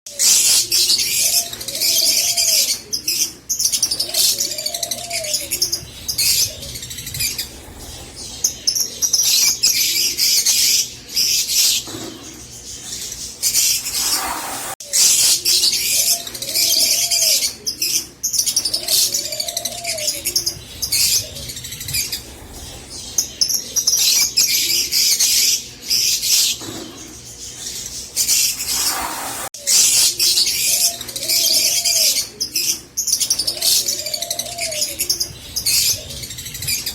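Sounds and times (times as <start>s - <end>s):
lovebirds chattering and chirping: 0.1s - 36.9s.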